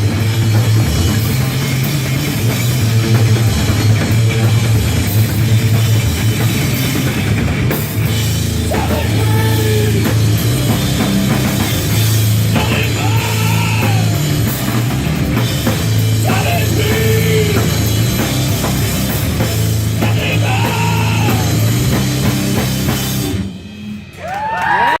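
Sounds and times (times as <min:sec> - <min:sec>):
heavy rock band playing: 0:00.0 - 0:25.0.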